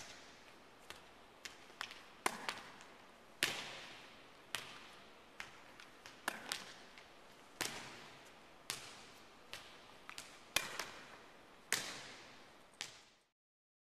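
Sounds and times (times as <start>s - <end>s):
volleyball smacks echoing in gym: 0.0s - 13.2s.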